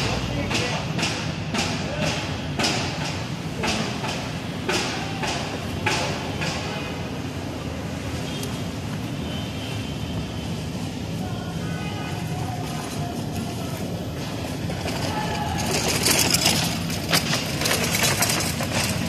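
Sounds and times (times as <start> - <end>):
car engines idling: 0.0 - 19.0.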